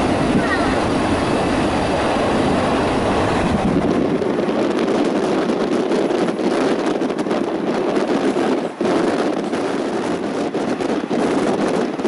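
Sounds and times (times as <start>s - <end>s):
moving train rushing: 0.0s - 12.0s
wind buffeting microphone: 0.0s - 12.0s.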